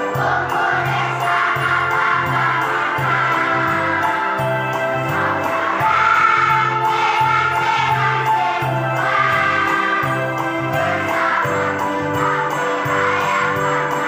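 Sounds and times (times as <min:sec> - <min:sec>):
children's choir singing: 0:00.0 - 0:14.0.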